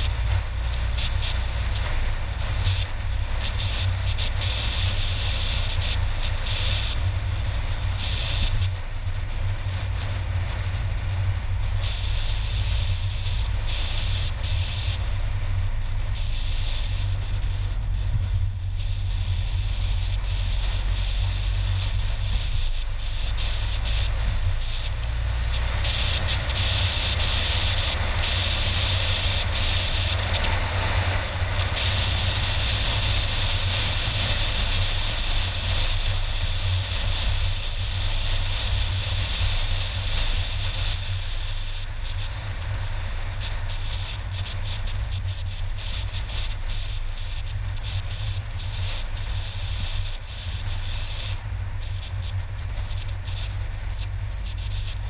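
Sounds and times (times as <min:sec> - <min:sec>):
car road and wind noise: 0:00.0 - 0:55.0.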